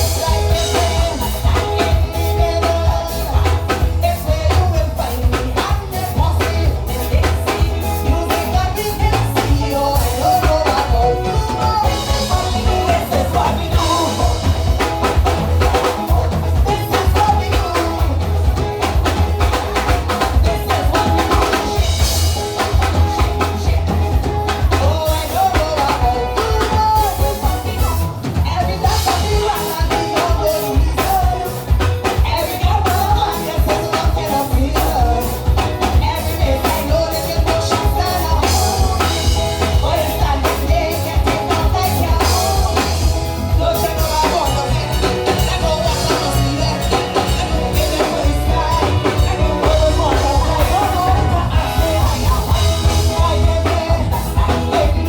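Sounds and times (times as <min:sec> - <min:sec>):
driving drum beat: 0:00.0 - 0:55.0
heavy bass: 0:00.0 - 0:55.0
singer: 0:00.0 - 0:55.0.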